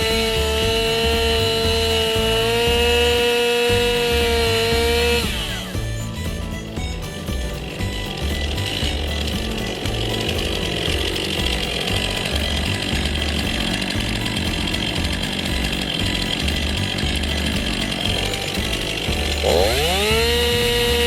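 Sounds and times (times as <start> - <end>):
chainsaw cutting through log: 0.0 - 21.0.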